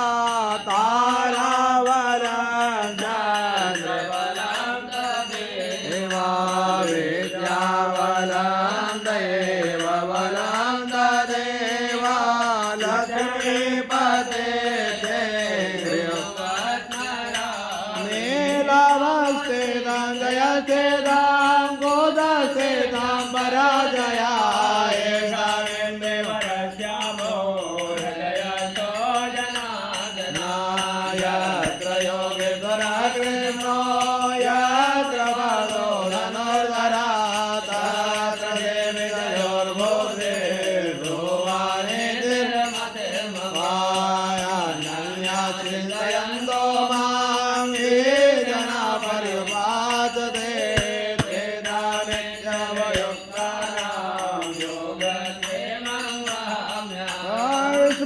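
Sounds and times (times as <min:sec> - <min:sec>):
person chanting a mantra: 0:00.0 - 0:58.0.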